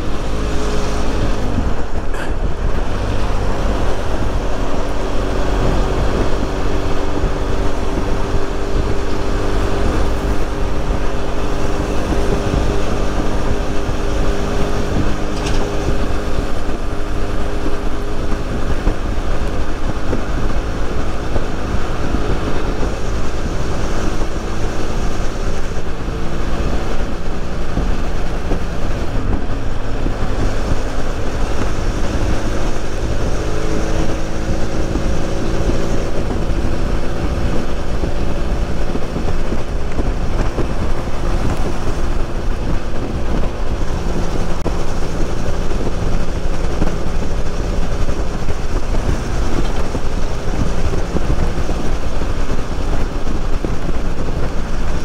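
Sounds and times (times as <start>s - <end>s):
motorcycle engine cruising: 0.0s - 55.0s
wind noise: 0.0s - 55.0s.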